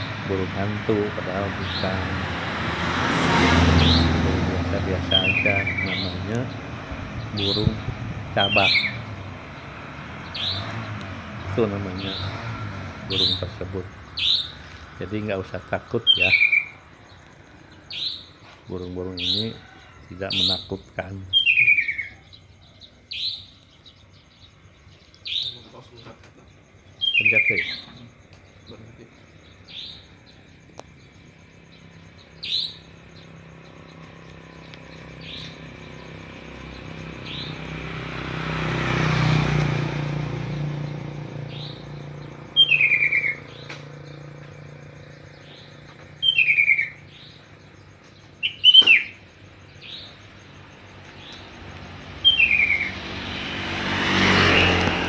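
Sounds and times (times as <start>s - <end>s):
nightjars calling: 0.0s - 55.0s
vehicles passing: 0.0s - 55.0s.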